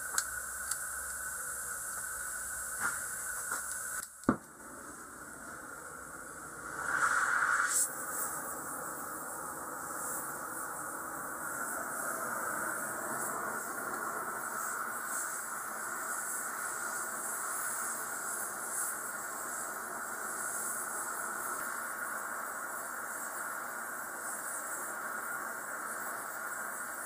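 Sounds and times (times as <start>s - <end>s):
gas torch hissing: 0.0s - 27.0s.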